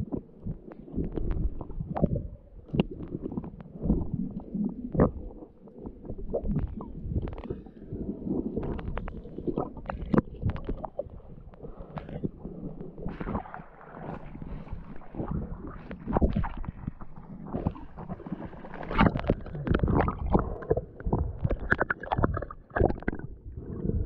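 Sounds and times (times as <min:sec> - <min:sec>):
underwater rumbling and sloshing: 0:00.0 - 0:24.0
water splashing: 0:02.6 - 0:24.0.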